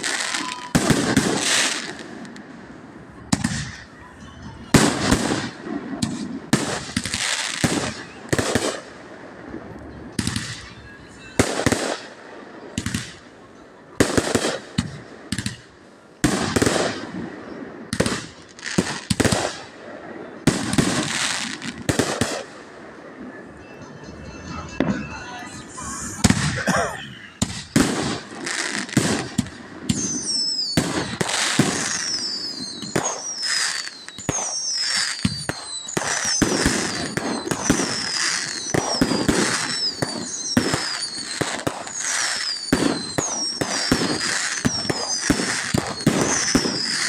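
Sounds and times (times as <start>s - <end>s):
fireworks bangs: 0.0s - 2.5s, 4.7s - 13.4s, 14.0s - 47.0s
fireworks crackle: 0.0s - 2.6s, 4.7s - 26.6s, 27.3s - 47.0s.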